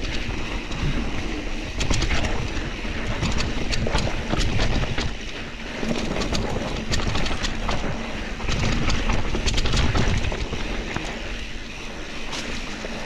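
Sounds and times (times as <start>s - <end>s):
bike clicks and rattles: 0.0s - 13.0s
tyres rolling over dirt: 0.0s - 13.0s
wind on microphone: 0.0s - 13.0s.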